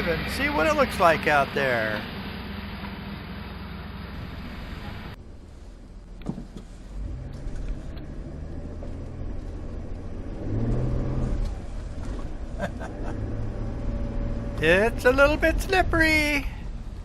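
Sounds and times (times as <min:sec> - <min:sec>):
car engine accelerating: 0:00.0 - 0:05.2, 0:06.8 - 0:15.8.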